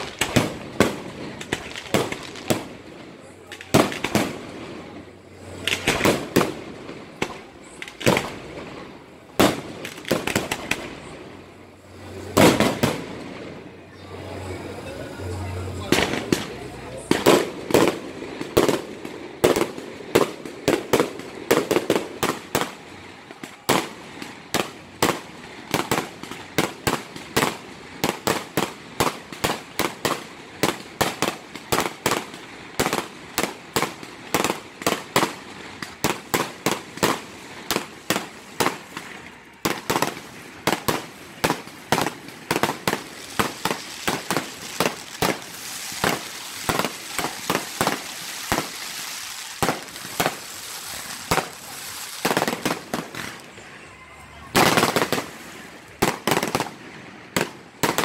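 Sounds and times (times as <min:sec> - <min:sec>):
fireworks hiss: 0:00.0 - 0:53.6
fireworks bangs: 0:00.0 - 0:58.0.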